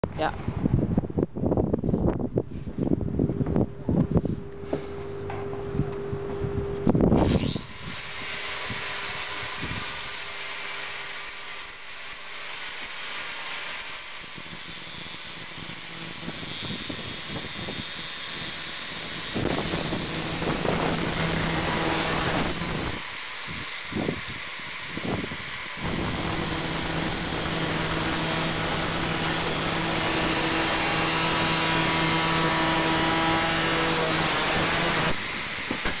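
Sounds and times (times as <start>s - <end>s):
angle grinder cutting steel: 7.2s - 36.0s.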